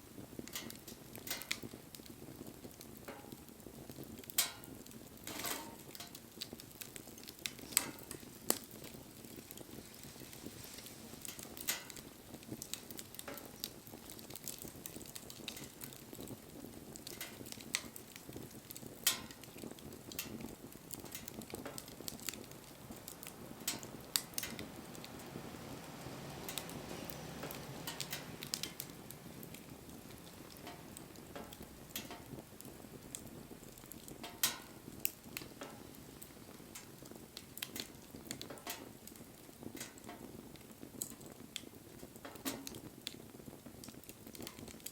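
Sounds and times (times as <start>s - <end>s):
burning wood popping: 0.0s - 44.9s
wood fire crackling: 0.0s - 44.9s.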